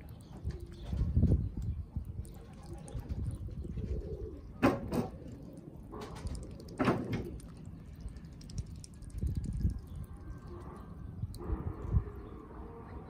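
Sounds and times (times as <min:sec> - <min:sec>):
duck drinking noises: 0:00.0 - 0:11.9
low steady rumble: 0:00.0 - 0:13.0.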